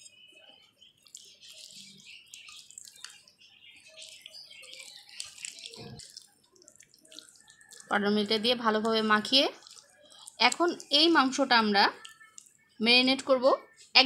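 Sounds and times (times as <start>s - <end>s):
wet squelching of kneading: 0.4s - 12.8s.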